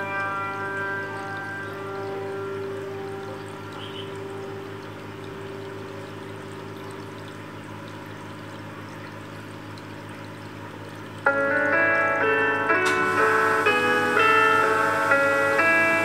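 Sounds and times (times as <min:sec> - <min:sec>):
aquarium water trickling: 0:00.0 - 0:16.0
low steady hum: 0:00.0 - 0:16.0.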